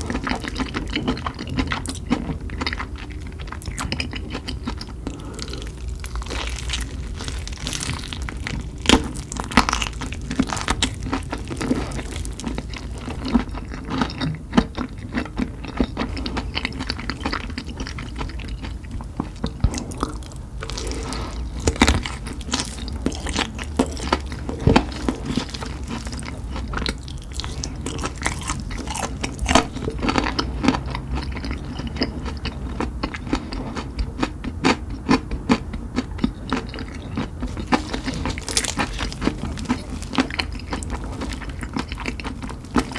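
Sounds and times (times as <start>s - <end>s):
person chewing crunchy chicken: 0.0s - 42.9s.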